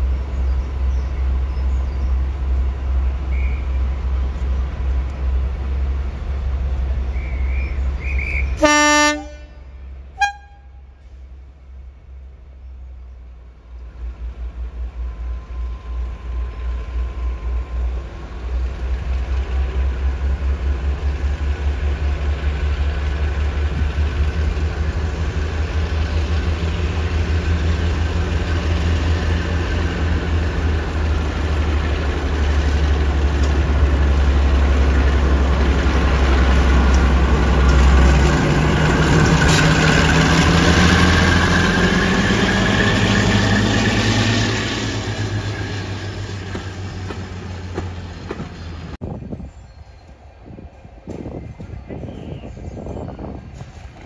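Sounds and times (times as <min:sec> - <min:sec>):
diesel locomotive engine throbbing: 0:00.0 - 0:54.0.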